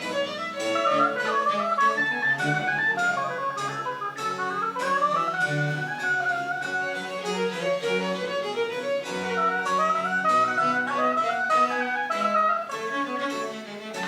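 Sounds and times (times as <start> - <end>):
violin melody: 0.0 - 14.0.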